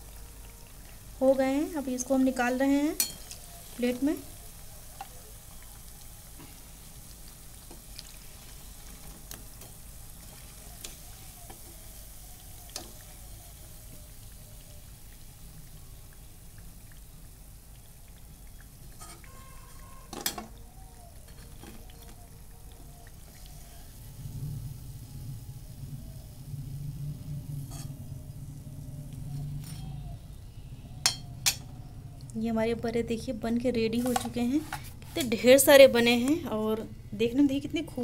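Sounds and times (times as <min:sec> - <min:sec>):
oil sizzling: 0:00.0 - 0:38.0.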